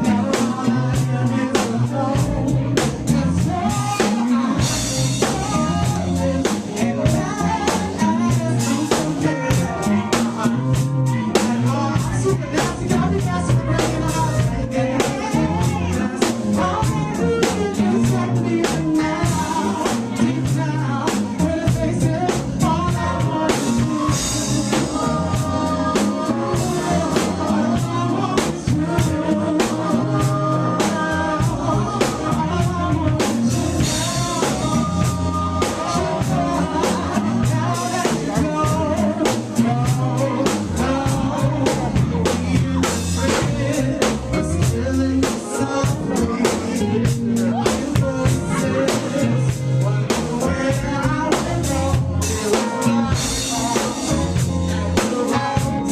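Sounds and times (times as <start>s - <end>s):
drum kit beat: 0.0s - 55.9s
funk band music: 0.0s - 55.9s
person singing: 0.0s - 55.9s.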